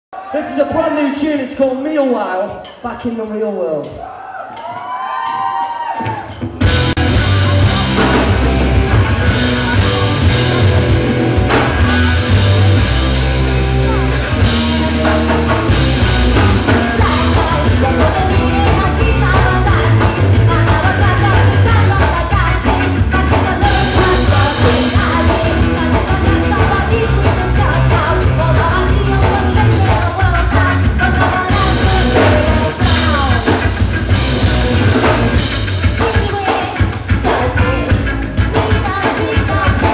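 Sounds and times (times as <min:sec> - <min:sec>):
ska-punk band playing live: 0:00.2 - 0:39.9.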